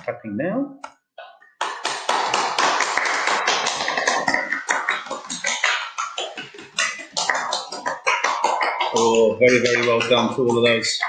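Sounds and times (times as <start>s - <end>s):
crowd applauding: 1.6s - 11.0s.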